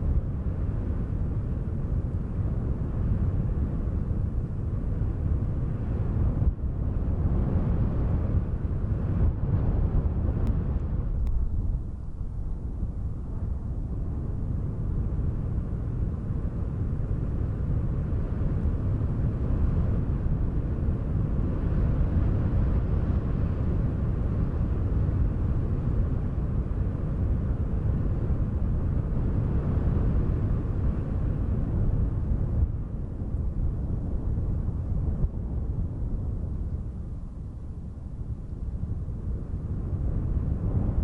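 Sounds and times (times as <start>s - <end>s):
wind blowing in gusts: 0.0s - 41.0s.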